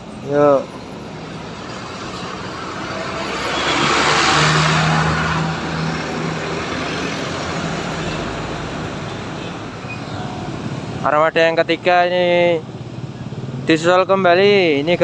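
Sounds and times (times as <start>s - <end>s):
buses passing: 0.0s - 15.0s.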